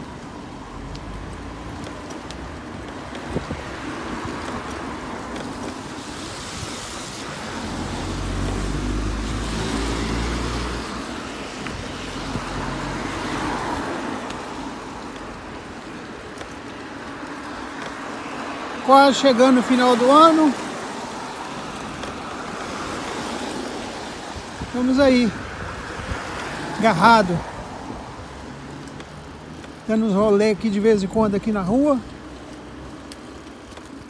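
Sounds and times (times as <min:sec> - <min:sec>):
car tyres hissing on wet road: 0:00.0 - 0:34.0.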